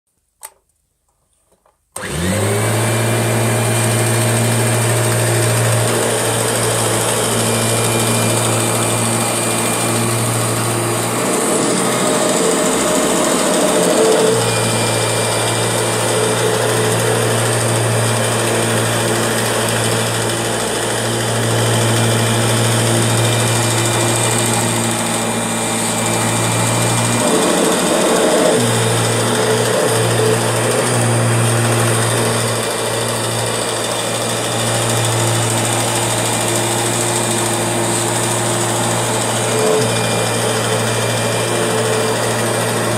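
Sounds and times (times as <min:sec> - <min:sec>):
rough noisy vacuum sound: 0:02.0 - 0:42.9
vacuum cleaner motor hum: 0:02.0 - 0:42.9.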